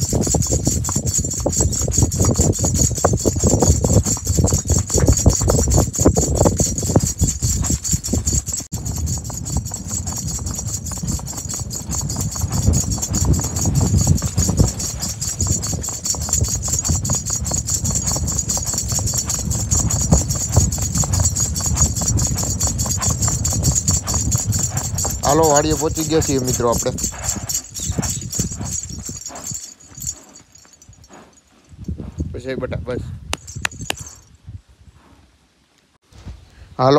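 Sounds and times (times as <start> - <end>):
horse hoofbeats on dirt: 0.0 - 32.3, 33.3 - 34.3.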